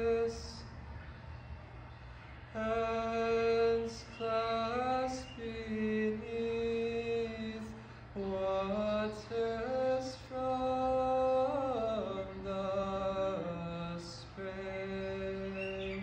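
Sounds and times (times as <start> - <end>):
man singing long notes: 0.0 - 0.7, 2.5 - 16.0
steady low hum: 0.0 - 16.0.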